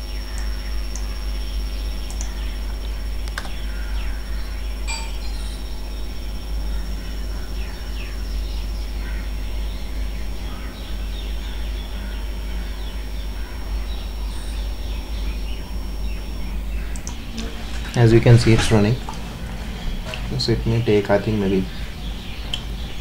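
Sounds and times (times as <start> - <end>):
faint high whine: 0.0 - 23.0
low steady hum: 0.0 - 23.0.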